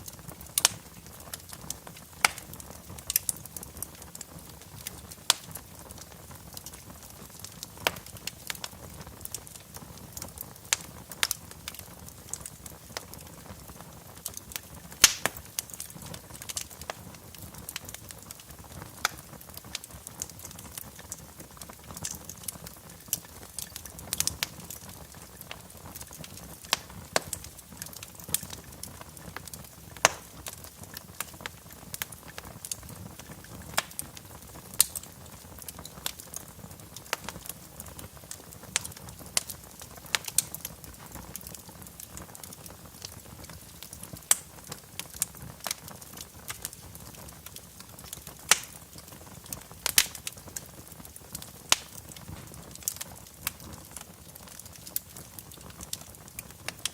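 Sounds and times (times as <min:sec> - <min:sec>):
soft steady hiss: 0:00.0 - 0:56.9
wood fire crackling: 0:00.0 - 0:56.9.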